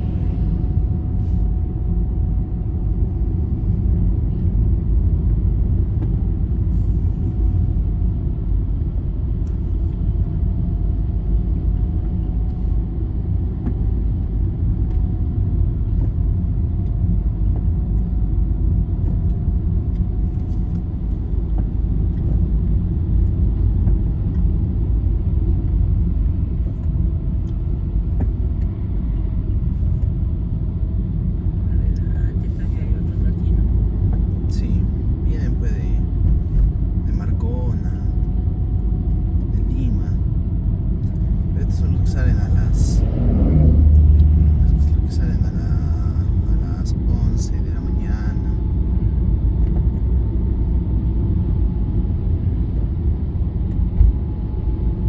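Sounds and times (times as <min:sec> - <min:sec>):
vehicle rumble on highway: 0:00.0 - 0:55.0.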